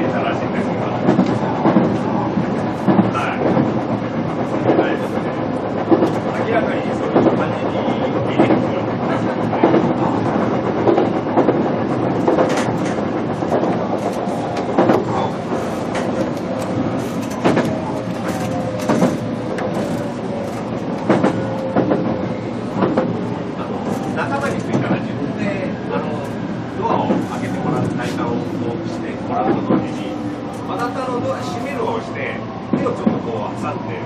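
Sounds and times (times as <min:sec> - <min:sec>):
train rolling rumble: 0:00.0 - 0:34.0.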